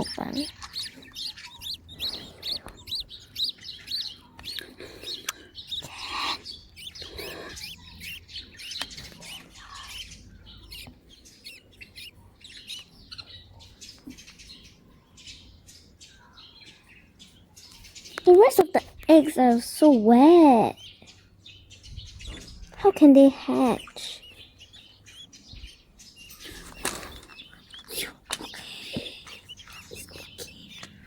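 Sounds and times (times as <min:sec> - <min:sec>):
budgerigars chirping: 0:00.0 - 0:31.0.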